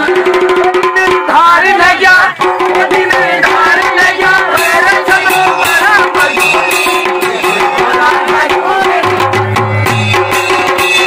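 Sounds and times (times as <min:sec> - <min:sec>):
drums beating fast: 0:00.0 - 0:11.0.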